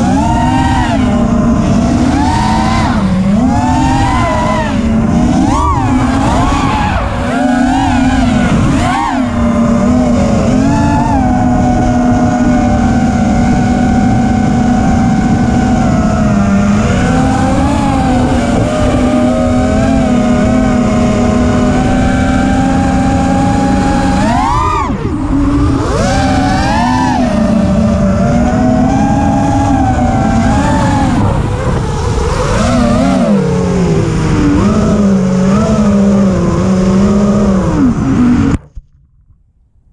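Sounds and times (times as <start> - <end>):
quadcopter motors whining: 0.0 - 38.6
wind on microphone: 0.0 - 39.9.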